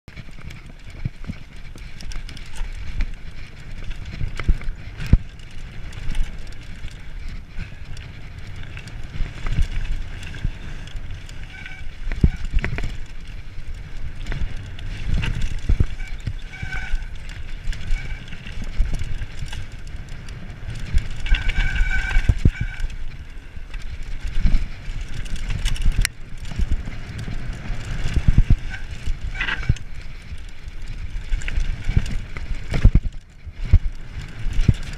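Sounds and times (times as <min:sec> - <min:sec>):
bike knocks and rattles: 0:00.1 - 0:34.9
tyres rumbling over gravel: 0:00.1 - 0:34.9.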